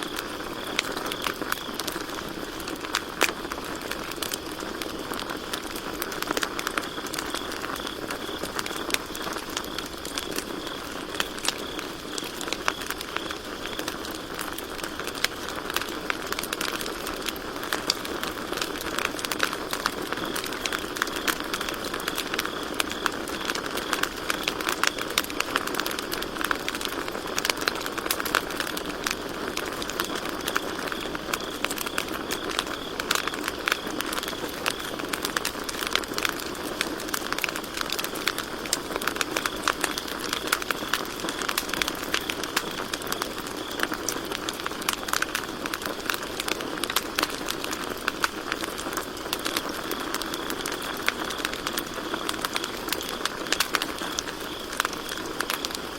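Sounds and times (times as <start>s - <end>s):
campfire crackling: 0.0s - 55.9s
crickets trilling: 0.0s - 55.9s.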